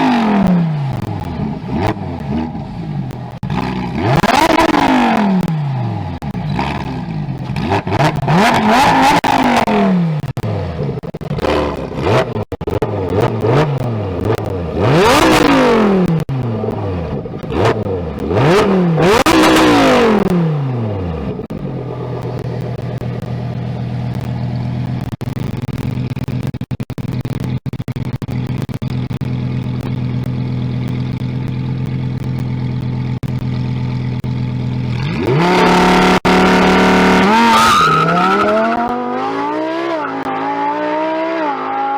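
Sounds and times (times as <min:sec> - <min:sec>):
car engine idling: 0:00.0 - 0:37.6
car engine revving: 0:00.0 - 0:41.9.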